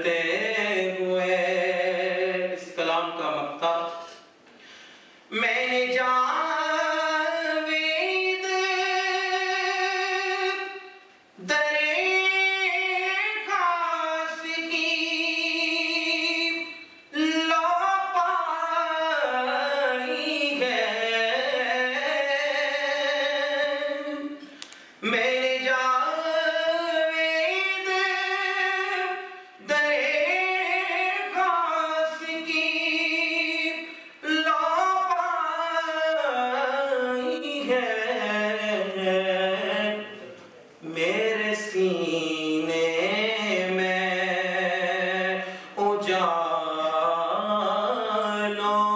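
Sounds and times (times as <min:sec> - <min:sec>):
man singing unaccompanied: 0:00.0 - 0:04.3, 0:05.3 - 0:48.9.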